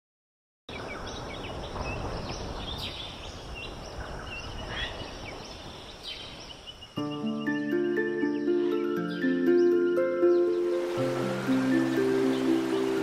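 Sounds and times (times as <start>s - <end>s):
birds chirping and whistling: 0.8s - 13.0s.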